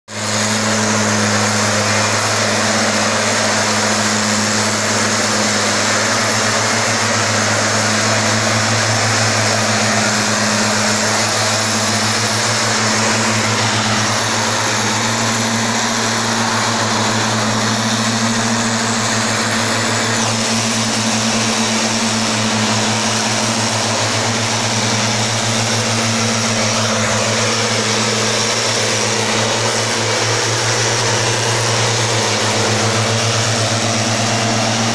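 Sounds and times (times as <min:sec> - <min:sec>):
two-stroke engine running: 0:00.0 - 0:34.9
air rushing through blower tube: 0:00.1 - 0:34.9.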